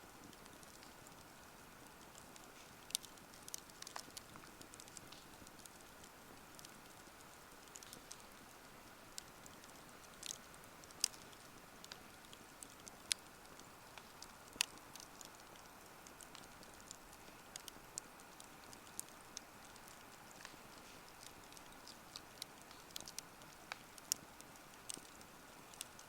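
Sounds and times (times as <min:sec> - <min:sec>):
wood fire crackling and popping: 0:00.1 - 0:26.0.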